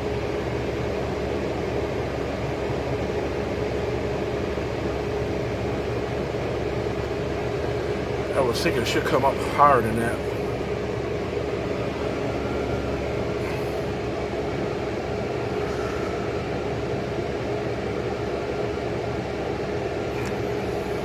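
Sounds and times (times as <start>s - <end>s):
window air conditioner humming: 0.0s - 21.0s.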